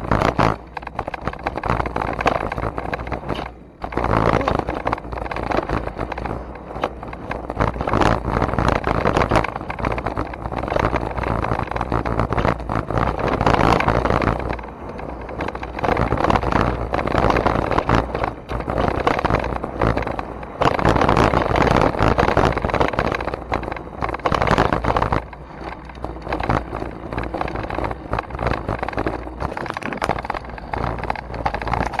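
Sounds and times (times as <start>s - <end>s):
tyres rolling over dirt: 0.0s - 32.0s
wind rushing over microphone: 0.0s - 32.0s.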